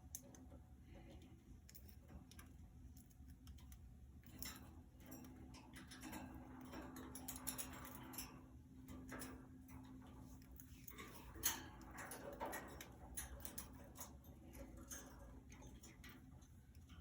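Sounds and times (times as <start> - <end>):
budgies clicking in cage: 0.0 - 17.0
low steady hum: 0.0 - 17.0.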